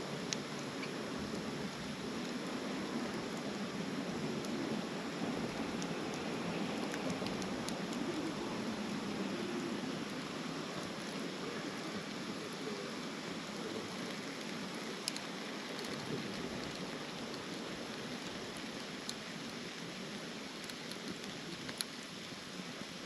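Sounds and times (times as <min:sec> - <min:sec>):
fire crackles: 0:00.0 - 0:23.0
wood fire hissing: 0:00.0 - 0:23.0.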